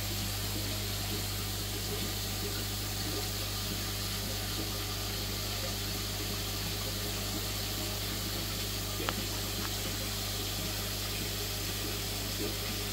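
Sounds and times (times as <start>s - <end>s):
aquarium pump hum: 0.0s - 12.9s
bubbling water hiss: 0.0s - 12.9s.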